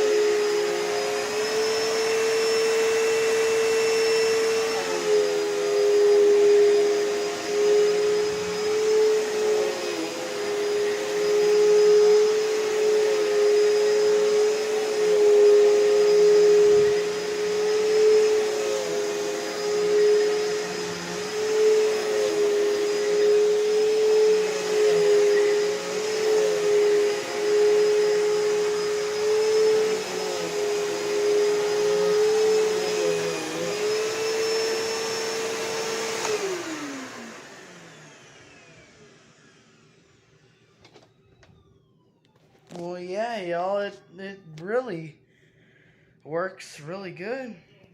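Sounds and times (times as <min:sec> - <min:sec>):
vacuum cleaner motor whine: 0:00.0 - 0:45.1.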